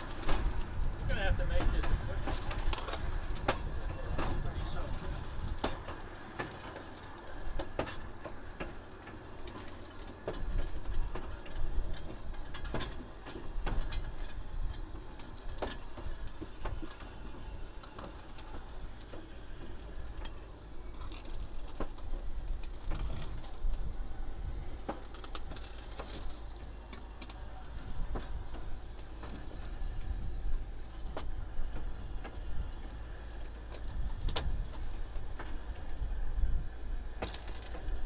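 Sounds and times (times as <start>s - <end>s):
train wheels rumbling: 0.0s - 38.0s
wheels clicking over rail joints: 0.0s - 38.0s.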